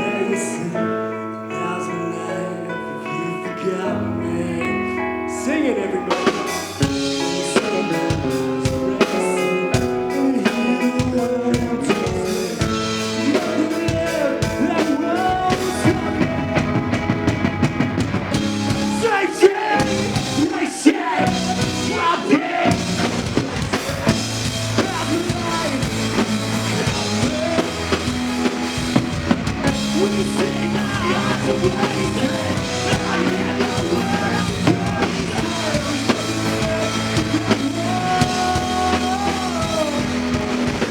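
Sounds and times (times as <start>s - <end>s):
person singing: 0.0s - 17.7s, 18.3s - 40.9s
rock band playing live: 0.0s - 40.9s
drum kit: 6.0s - 40.9s.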